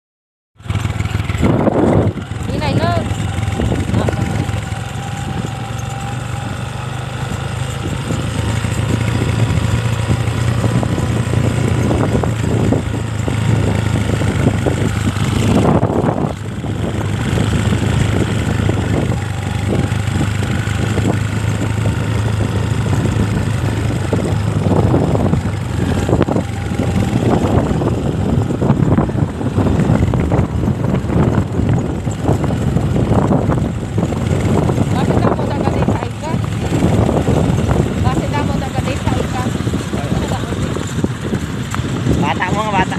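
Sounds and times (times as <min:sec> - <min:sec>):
small motorcycle engine running: 0:00.6 - 0:42.9.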